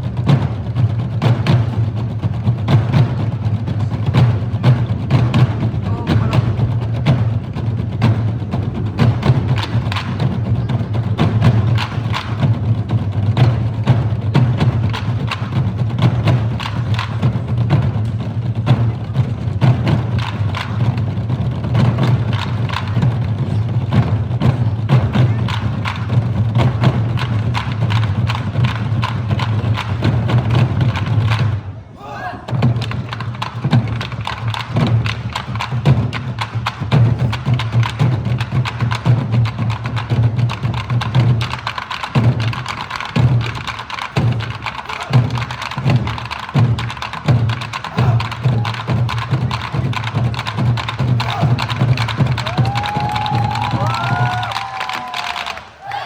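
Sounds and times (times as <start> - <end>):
heavy low drum beat: 0.0 - 31.3, 32.5 - 55.2
drums and sticks striking: 0.0 - 56.0.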